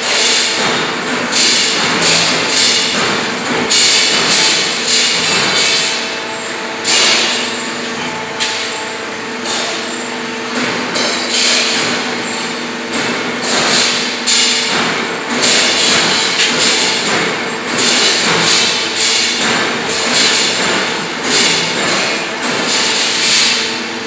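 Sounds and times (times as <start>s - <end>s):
machinery clatter: 0.0s - 24.0s
machinery hum: 0.0s - 24.0s.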